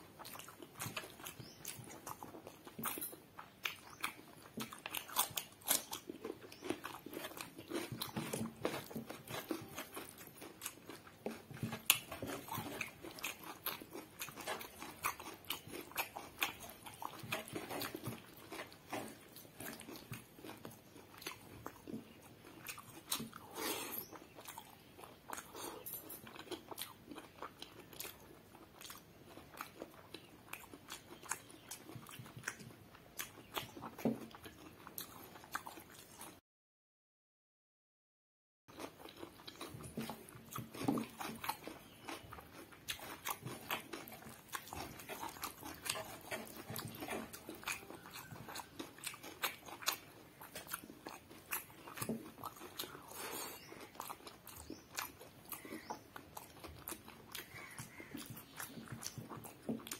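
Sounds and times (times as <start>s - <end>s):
person chewing and crunching: 0.0s - 36.4s, 38.7s - 59.9s.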